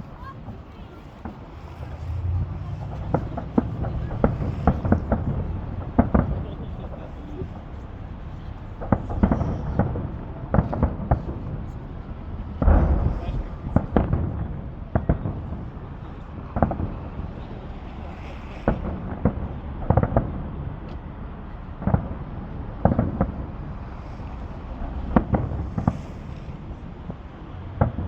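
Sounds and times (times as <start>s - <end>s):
fireworks bangs with echo: 0.1s - 28.0s
low rumble: 1.3s - 28.0s.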